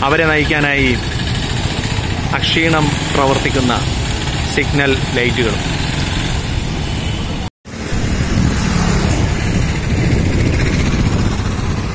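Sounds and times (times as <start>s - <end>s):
road traffic rumble: 0.0s - 11.9s.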